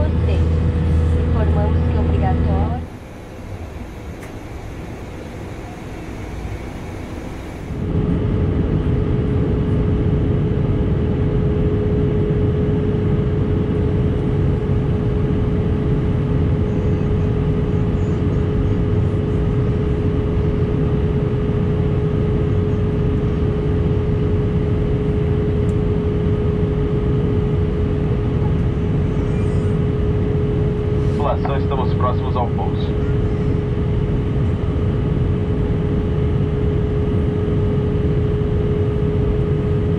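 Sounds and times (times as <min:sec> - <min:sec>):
airplane cabin hum: 0:00.0 - 0:39.9
jet engine rumble and whine: 0:00.0 - 0:39.9.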